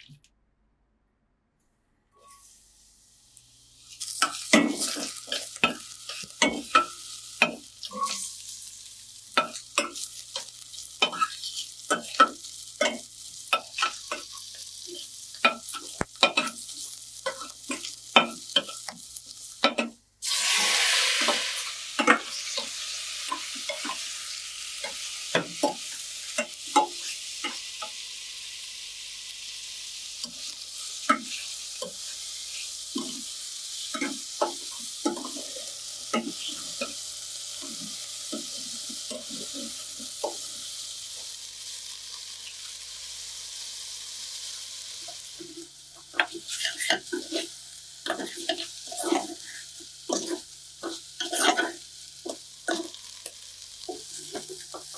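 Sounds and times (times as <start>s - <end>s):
food sizzling in hot oil: 2.2s - 54.9s.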